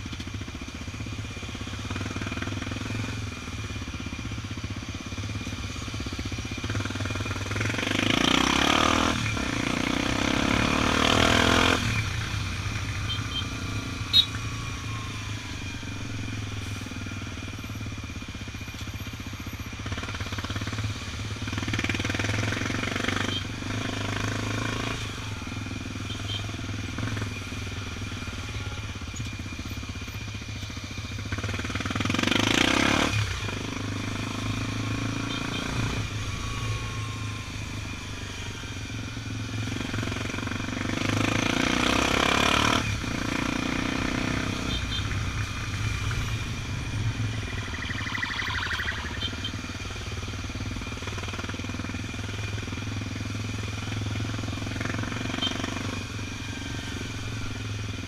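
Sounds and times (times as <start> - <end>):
motorcycle engine running: 0.0 - 58.0
traffic: 0.0 - 58.0.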